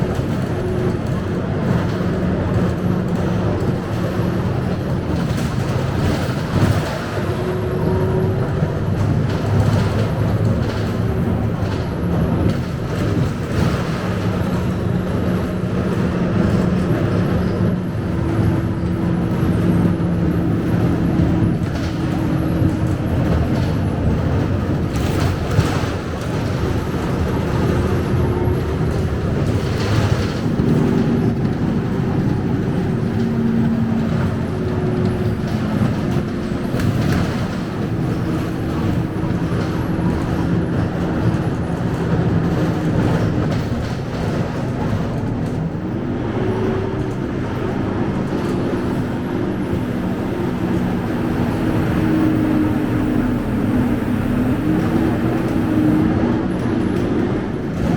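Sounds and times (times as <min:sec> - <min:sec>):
bus diesel engine: 0:00.0 - 0:57.9
road rumble: 0:00.0 - 0:57.9.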